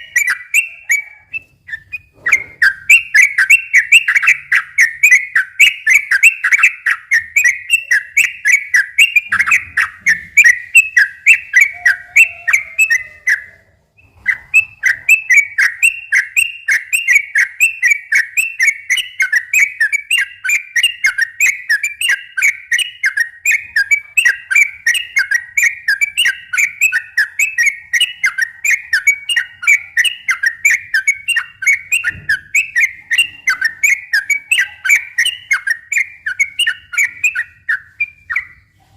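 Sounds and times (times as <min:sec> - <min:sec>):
bulbul singing rolling notes: 0:00.0 - 0:38.9.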